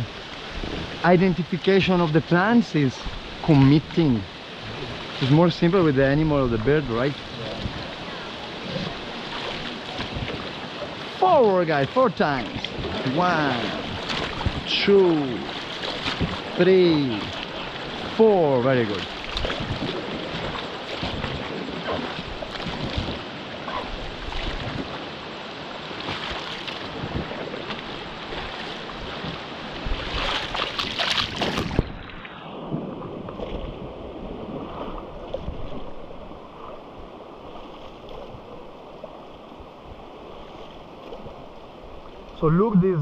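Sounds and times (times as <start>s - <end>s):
river water splashing around raft: 0.0s - 43.0s.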